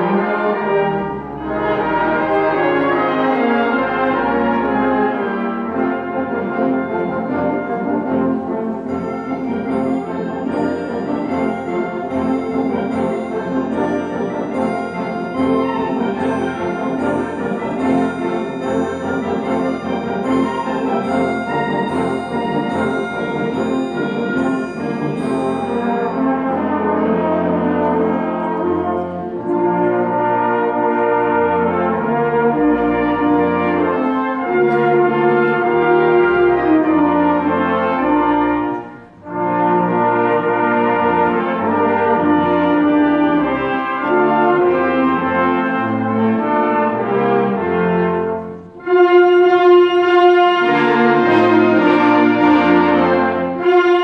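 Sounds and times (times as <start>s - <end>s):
wind band playing a carol: 0.0s - 54.0s.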